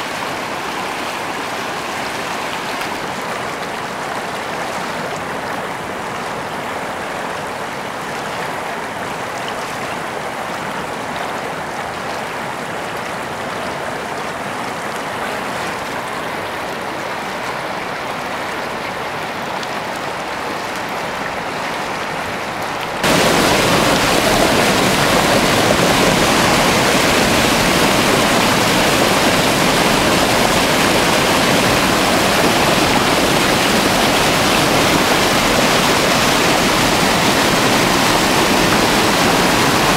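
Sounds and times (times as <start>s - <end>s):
stream rushing over rocks: 0.0s - 39.9s
water cascade rushing: 0.0s - 39.9s.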